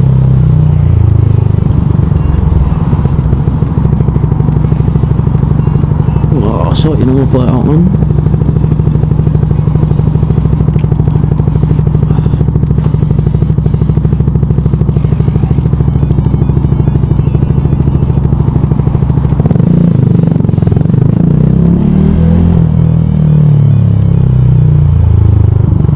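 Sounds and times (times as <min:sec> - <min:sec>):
motorcycle engine cruising: 0:00.0 - 0:25.9.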